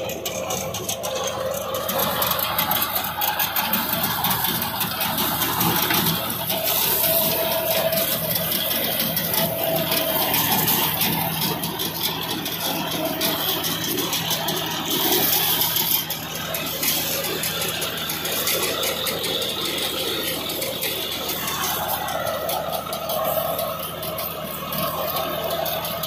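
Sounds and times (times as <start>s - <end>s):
implements rattling: 0.0s - 26.0s
tractor diesel engine under load: 0.0s - 26.0s.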